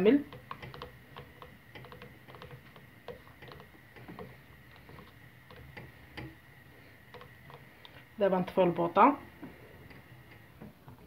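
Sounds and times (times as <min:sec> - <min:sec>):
whisk clicking and scraping in pot: 0:00.0 - 0:08.9.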